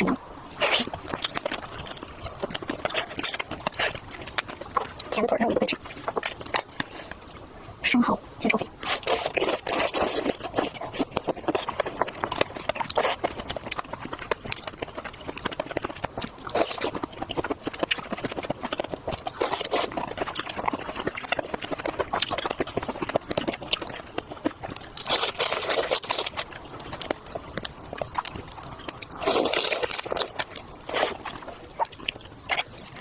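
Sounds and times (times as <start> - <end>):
seafood being chewed: 0.0 - 7.8, 8.6 - 33.0.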